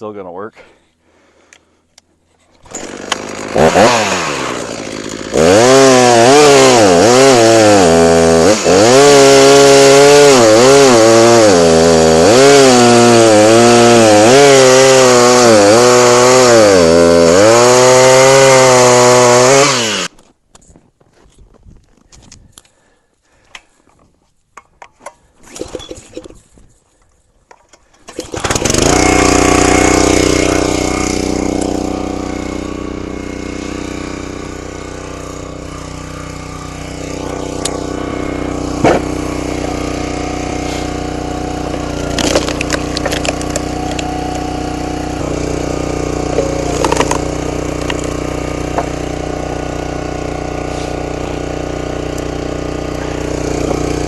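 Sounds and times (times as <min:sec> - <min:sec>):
small gasoline engine running: 0:02.6 - 0:20.1, 0:28.1 - 0:54.0.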